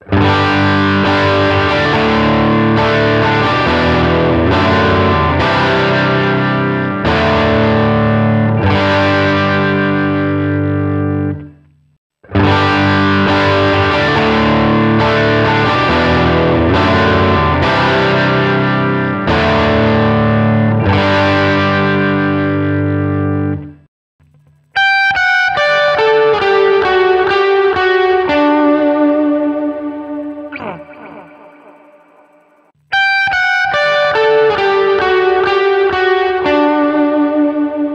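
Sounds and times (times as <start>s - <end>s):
clean picked guitar notes: 0.0s - 11.6s, 12.2s - 37.9s
distorted electric guitar chords: 0.0s - 37.9s.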